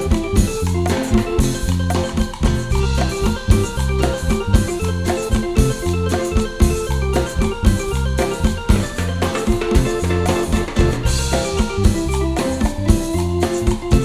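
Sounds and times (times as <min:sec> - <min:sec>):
bass: 0:00.0 - 0:14.0
bright melodic lines: 0:00.0 - 0:14.0
drum kit beat: 0:00.0 - 0:14.0.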